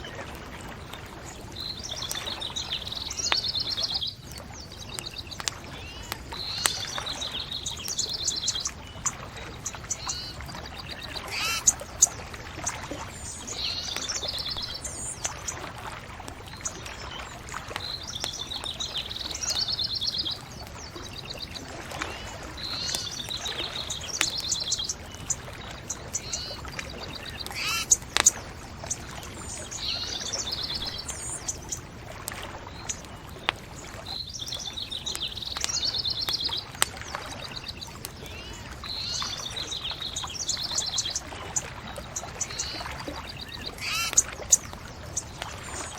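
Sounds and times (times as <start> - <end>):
bonfire crackling pops: 0.7 - 22.0, 22.6 - 38.8
songbirds singing trilled phrases: 0.8 - 15.7, 16.4 - 45.9.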